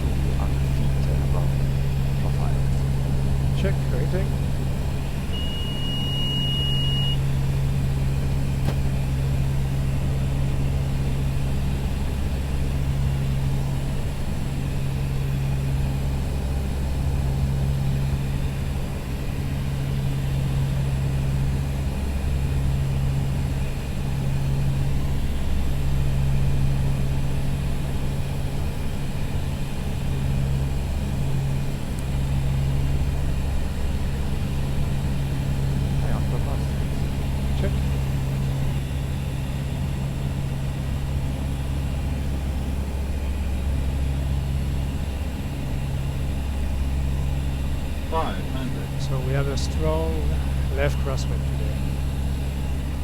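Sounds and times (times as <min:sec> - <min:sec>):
turboprop engines droning: 0:00.0 - 0:53.0.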